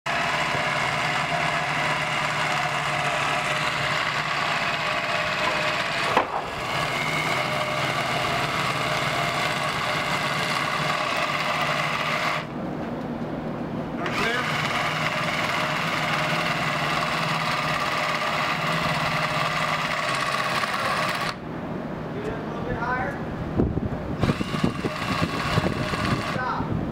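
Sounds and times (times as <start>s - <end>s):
electric drill whining under load: 0.1s - 12.5s, 14.0s - 21.4s, 24.2s - 26.5s.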